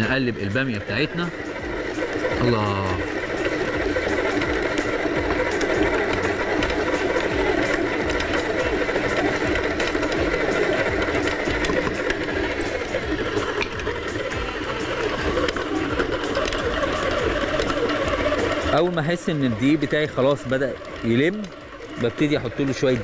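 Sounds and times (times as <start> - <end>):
stand mixer motor running: 0.0 - 23.0.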